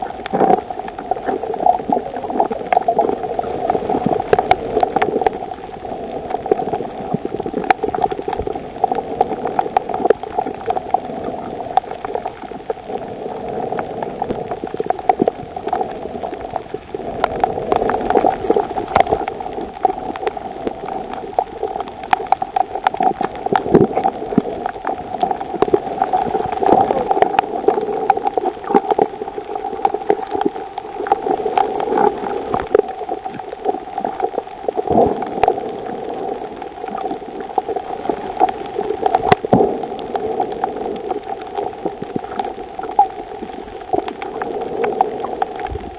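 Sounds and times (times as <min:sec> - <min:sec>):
muffled underwater rush: 0:00.0 - 0:45.9
sharp clicks and crackles: 0:00.0 - 0:45.9.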